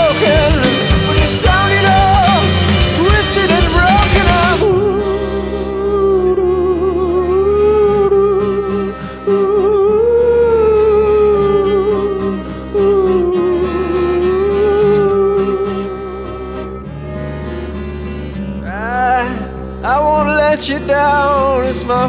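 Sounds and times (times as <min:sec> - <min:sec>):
instrumental music with lead melody: 0:00.0 - 0:22.0.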